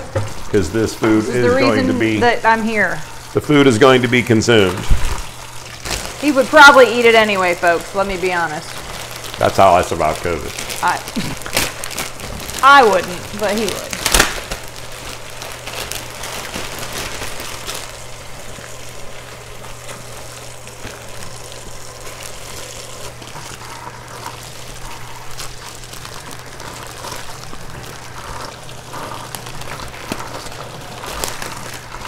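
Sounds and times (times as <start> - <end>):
water running: 0.0 - 32.0.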